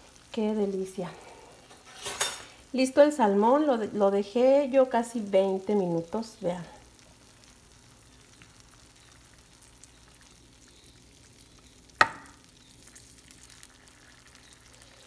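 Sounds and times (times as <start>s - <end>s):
faint crackling sizzle of hot juices: 0.0s - 15.0s.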